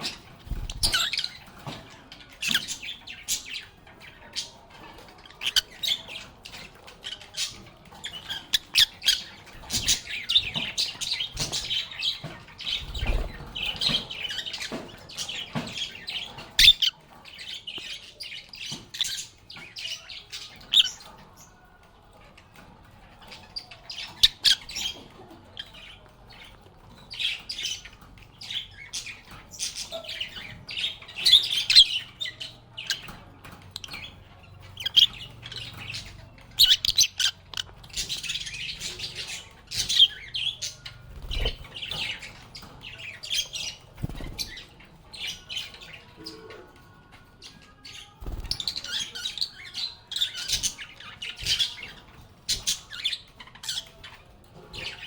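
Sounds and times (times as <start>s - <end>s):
birds chattering and squawking: 0.0s - 55.0s.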